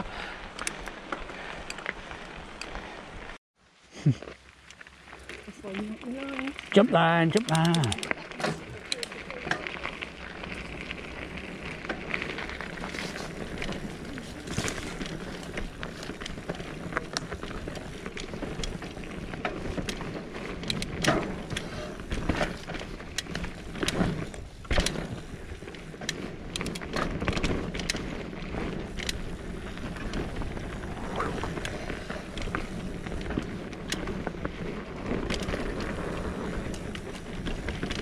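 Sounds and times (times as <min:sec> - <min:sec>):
bike tyres rumbling on dirt: 0:00.0 - 0:38.0
bike knocking and rattling: 0:04.6 - 0:38.0.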